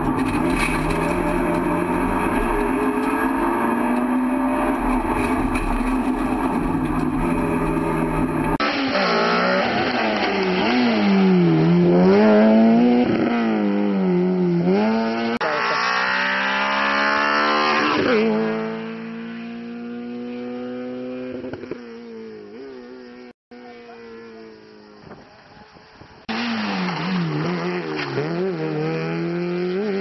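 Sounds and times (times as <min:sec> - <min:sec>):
rally car engine revving: 0:00.0 - 0:21.8, 0:26.3 - 0:30.0.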